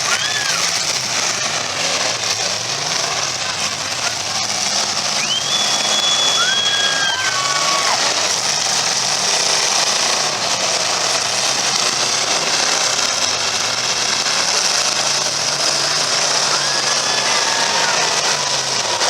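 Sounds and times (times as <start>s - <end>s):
car engines running: 0.0s - 19.0s.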